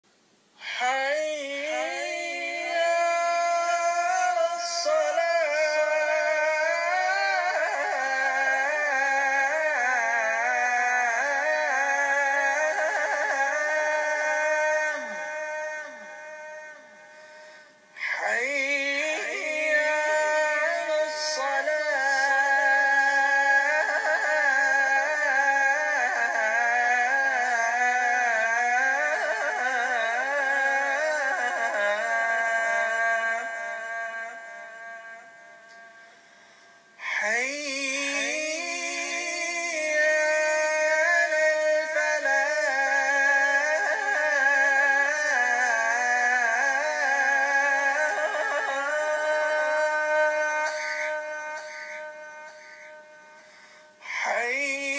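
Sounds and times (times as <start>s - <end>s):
man chanting call to prayer: 0.6s - 54.9s.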